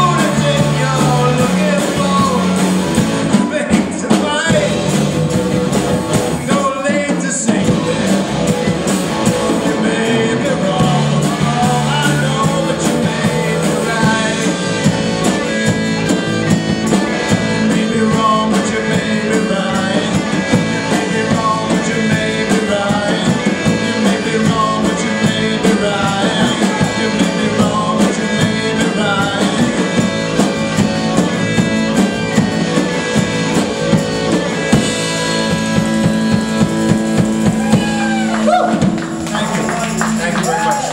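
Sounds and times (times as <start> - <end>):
drum kit beat: 0.0 - 40.9
rock band playing: 0.0 - 40.9.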